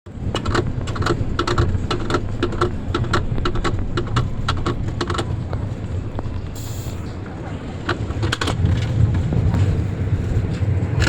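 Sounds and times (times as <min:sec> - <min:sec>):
low rumble of lift: 0:00.1 - 0:11.0
roller coaster ratchet clacking: 0:00.1 - 0:11.0.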